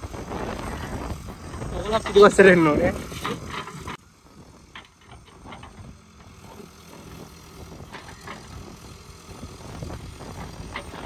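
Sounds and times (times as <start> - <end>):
backhoe diesel engine running: 0.0 - 11.0.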